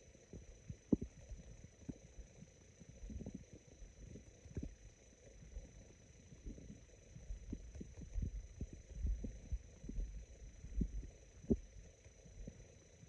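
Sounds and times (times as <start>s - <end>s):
stomach gurgling: 0.0s - 13.0s.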